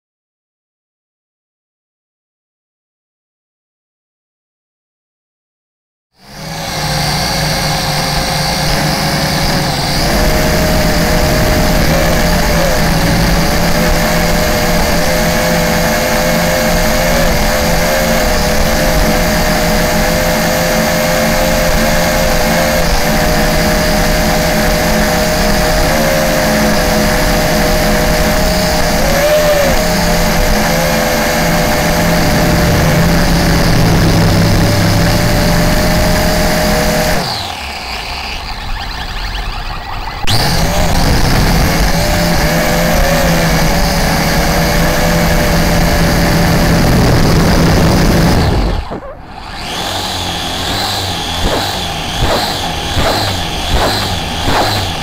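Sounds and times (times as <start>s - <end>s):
quadcopter propellers whirring: 6.2s - 55.0s.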